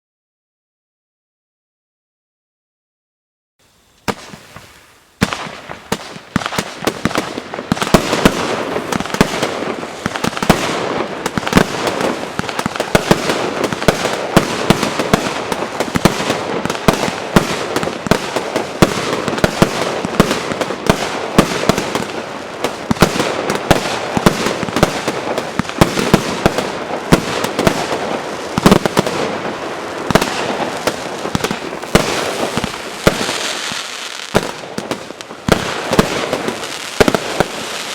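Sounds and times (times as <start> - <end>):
fireworks barrage of shots: 4.0 - 37.9.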